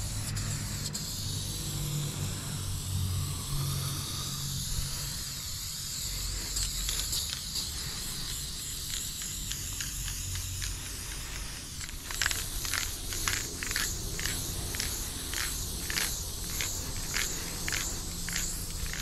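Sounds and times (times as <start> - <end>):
spray paint can hissing: 0.0 - 19.0.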